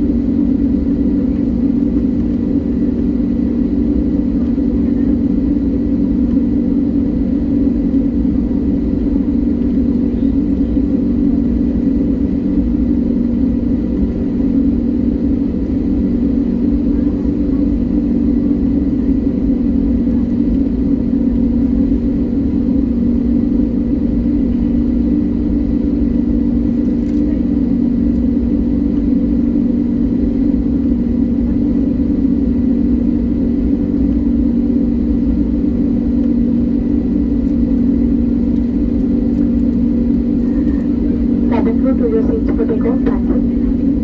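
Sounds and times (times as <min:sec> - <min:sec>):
airliner engines droning: 0:00.0 - 0:44.0.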